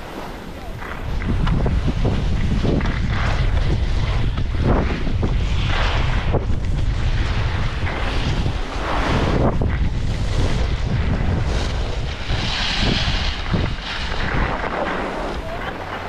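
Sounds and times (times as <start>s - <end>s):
skis carving snow: 0.0s - 16.0s
wind rumble on microphone: 0.0s - 16.0s.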